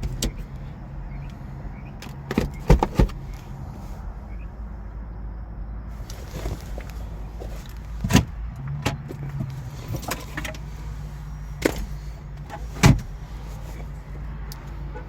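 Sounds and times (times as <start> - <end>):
car parts clicking and knocking: 0.0 - 3.6, 6.0 - 15.0.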